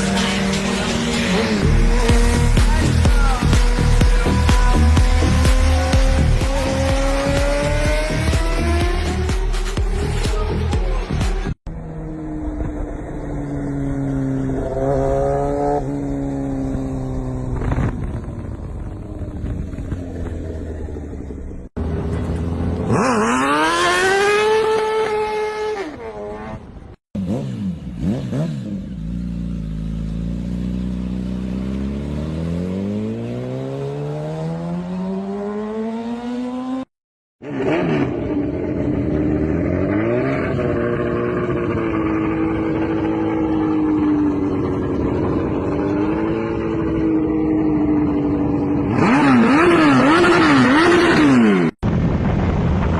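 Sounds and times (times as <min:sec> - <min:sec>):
engines revving: 0:00.0 - 0:18.0, 0:21.7 - 0:51.8.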